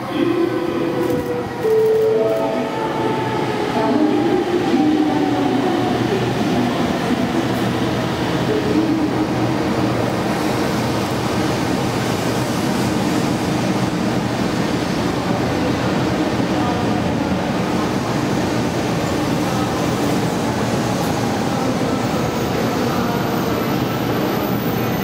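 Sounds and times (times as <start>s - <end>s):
low train whine: 0.0s - 25.0s.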